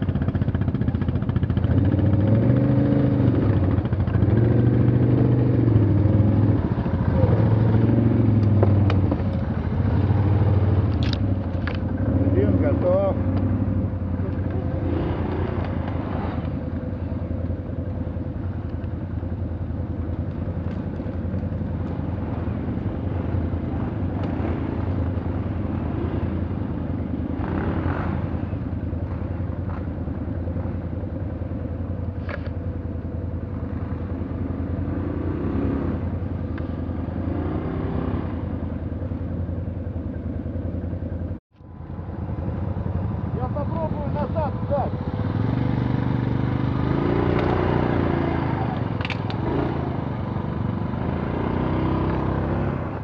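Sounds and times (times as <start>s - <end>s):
vehicle engine running: 0.0s - 37.6s, 38.4s - 53.0s.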